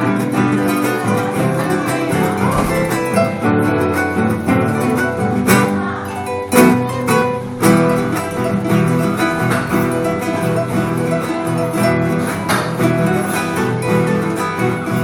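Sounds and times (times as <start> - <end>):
acoustic guitar plucking: 0.0 - 15.0
strummed guitar chords: 0.0 - 15.0.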